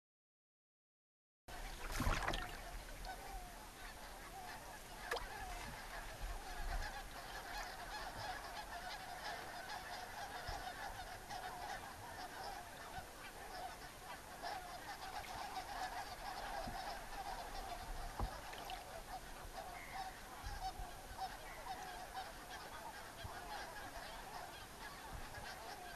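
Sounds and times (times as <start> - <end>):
geese honking: 2.5 - 25.9.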